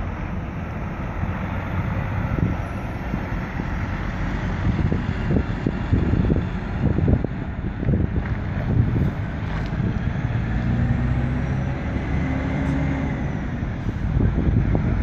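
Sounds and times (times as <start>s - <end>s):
lorry diesel engine at low revs: 0.0s - 15.0s
traffic rumble: 0.0s - 15.0s
wind noise on microphone: 2.0s - 15.0s.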